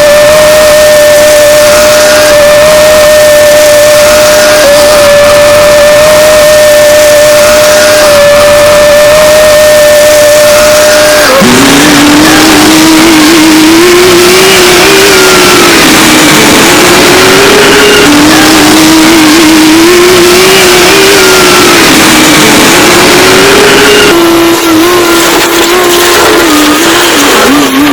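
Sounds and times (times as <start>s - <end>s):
machine motor running: 4.0s - 27.9s.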